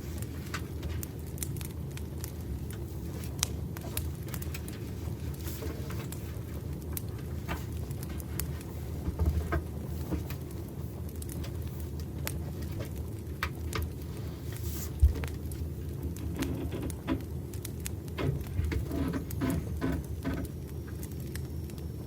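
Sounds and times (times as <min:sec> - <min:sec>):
campfire crackling: 0:00.0 - 0:18.6, 0:19.2 - 0:22.0.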